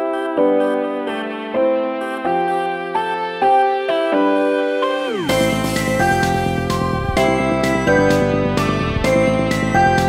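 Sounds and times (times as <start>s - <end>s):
electronic dance music: 0.4s - 10.0s.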